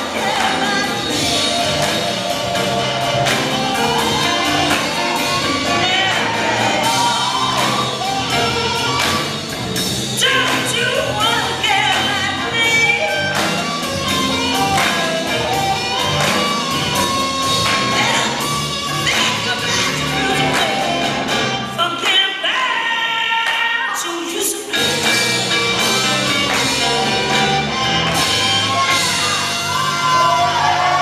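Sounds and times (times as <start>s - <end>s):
blues music with singing: 0.0s - 31.0s.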